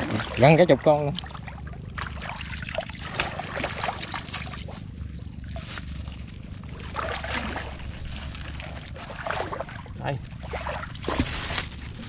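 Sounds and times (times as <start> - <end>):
steady low rumble: 0.0 - 12.0
water splashing from wading: 0.0 - 12.0.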